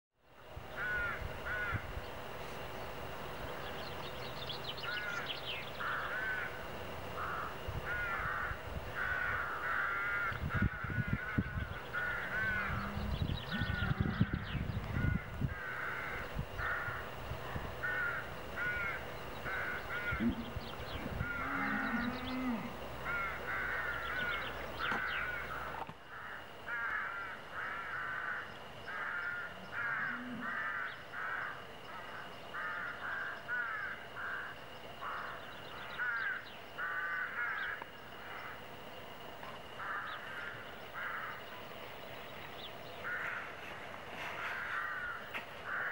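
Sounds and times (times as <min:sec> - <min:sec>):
crows cawing: 0:00.7 - 0:01.9, 0:04.8 - 0:38.6, 0:39.7 - 0:41.5, 0:42.9 - 0:45.9.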